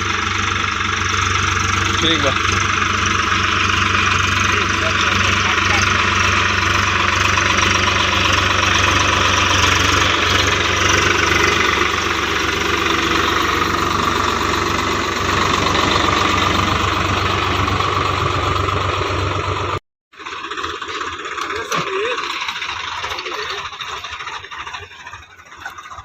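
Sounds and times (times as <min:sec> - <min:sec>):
tractor diesel engine clattering: 0:00.0 - 0:26.0.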